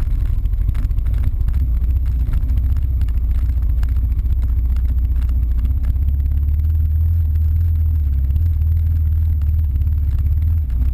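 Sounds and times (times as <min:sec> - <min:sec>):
dirt bike engine drone: 0:00.0 - 0:10.9.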